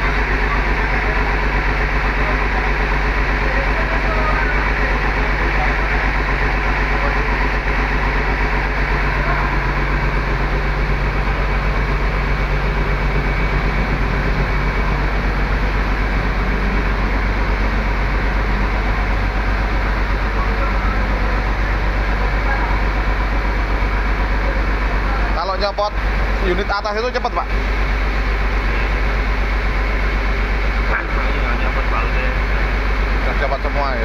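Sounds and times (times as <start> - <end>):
diesel bus engine running: 0.0 - 34.0.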